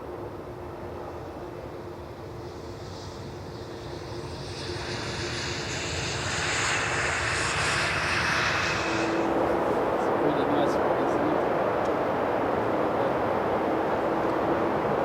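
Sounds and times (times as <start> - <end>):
jet airliner engines whining: 0.0 - 15.0.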